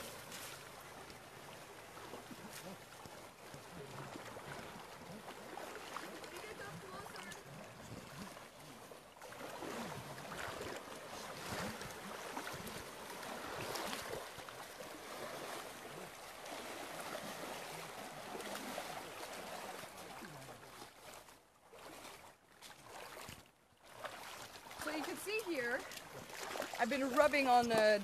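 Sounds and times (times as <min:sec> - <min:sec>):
river water splashing: 0:00.0 - 0:28.0.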